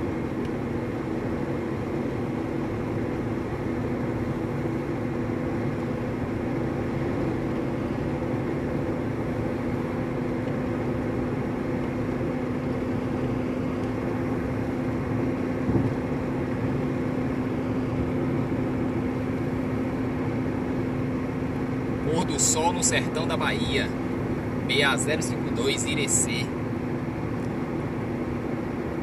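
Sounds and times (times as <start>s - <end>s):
car engine drone: 0.0s - 29.0s
road and tyre noise: 0.0s - 29.0s.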